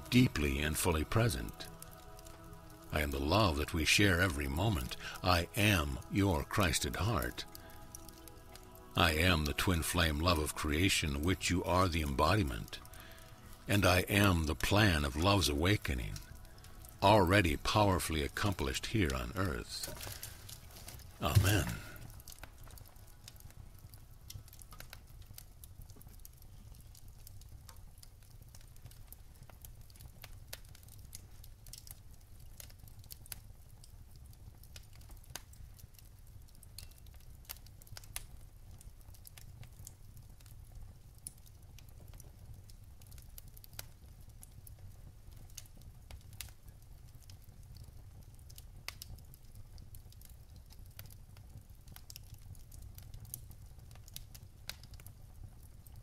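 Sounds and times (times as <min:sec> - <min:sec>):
low fire rumble: 0:00.0 - 0:56.0
wood fire crackling and popping: 0:00.0 - 0:56.0.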